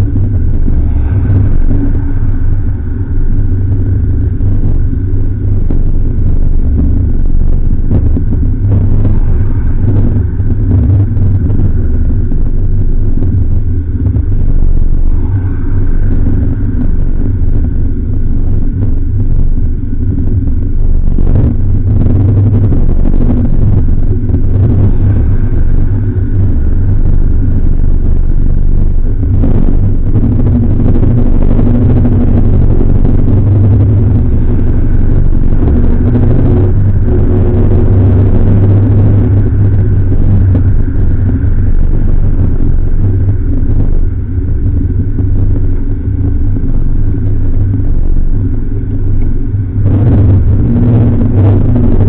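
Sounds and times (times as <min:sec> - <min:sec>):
car engine running: 0:00.0 - 0:52.0
wind noise: 0:00.0 - 0:52.0.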